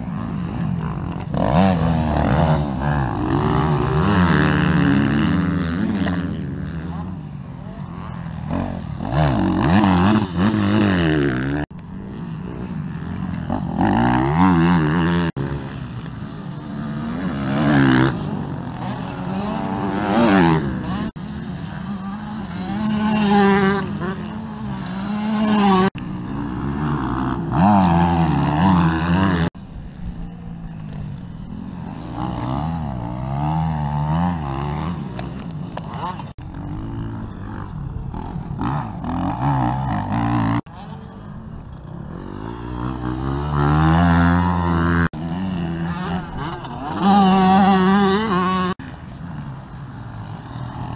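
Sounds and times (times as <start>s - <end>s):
motorcycles accelerating past: 0.0s - 50.9s.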